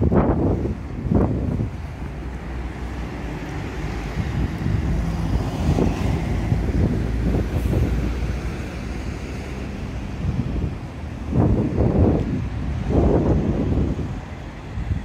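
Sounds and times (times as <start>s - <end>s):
road traffic passing: 0.0s - 15.0s
wind buffeting microphone: 0.0s - 15.0s
vehicle passing: 2.4s - 15.0s.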